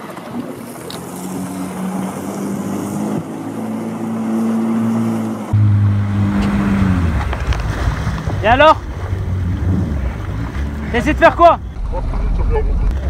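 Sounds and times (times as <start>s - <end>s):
jet ski engine running: 0.0s - 13.0s.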